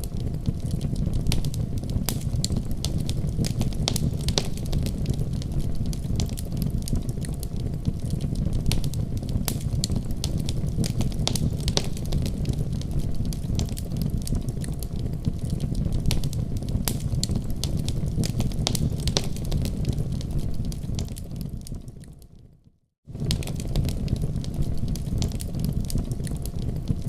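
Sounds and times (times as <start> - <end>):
wood fire crackling: 0.0 - 22.5, 23.1 - 27.0.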